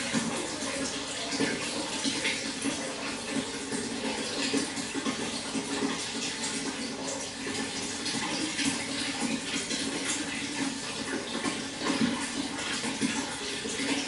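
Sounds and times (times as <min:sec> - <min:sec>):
running water splashing: 0:00.0 - 0:14.0.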